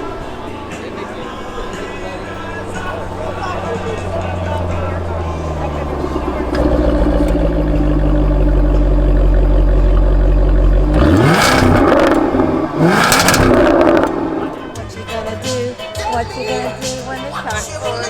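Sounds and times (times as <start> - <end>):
sports car engine idling and revving: 0.0 - 18.0.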